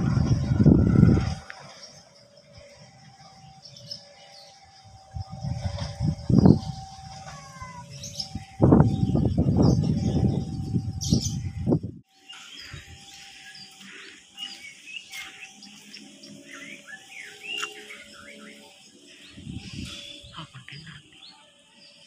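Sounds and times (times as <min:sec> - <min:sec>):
birds chirping: 0:00.0 - 0:22.0
faint drawn-out tones: 0:00.0 - 0:22.0.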